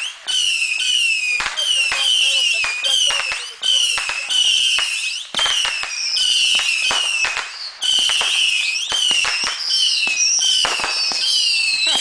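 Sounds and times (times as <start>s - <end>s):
firework pops and cracks: 0.0s - 12.0s
firework whistles: 0.0s - 12.0s.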